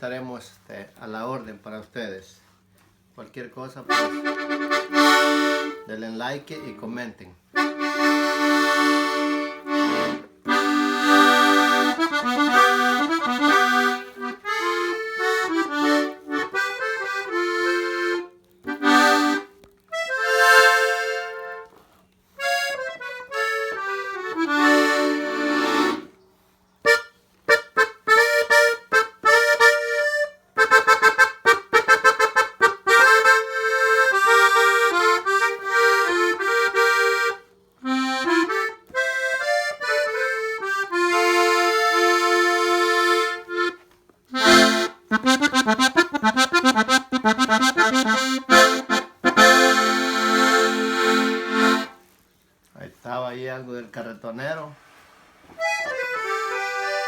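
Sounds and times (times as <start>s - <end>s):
accordion played solo: 3.8s - 26.2s, 26.8s - 52.2s, 55.4s - 57.0s.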